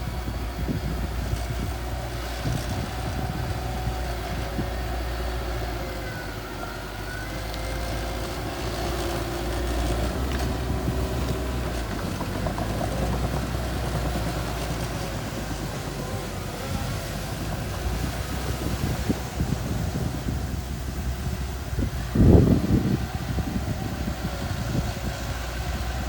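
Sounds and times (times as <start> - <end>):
bulldozer engine running: 0.0 - 26.0.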